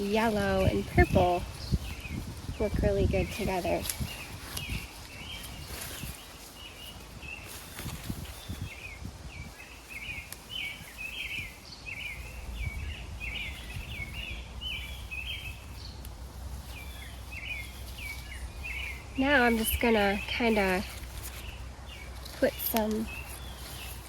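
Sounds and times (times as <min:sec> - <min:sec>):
songbird chirping: 0:00.0 - 0:24.0.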